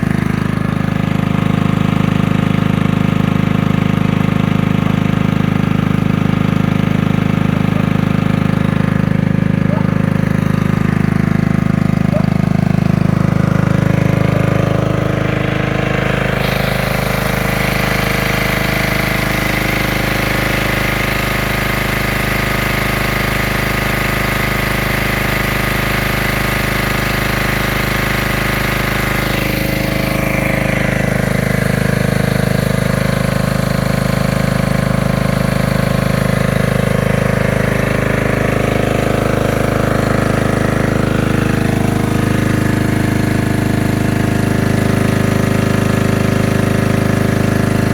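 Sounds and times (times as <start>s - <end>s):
generator engine running: 0.0s - 47.9s.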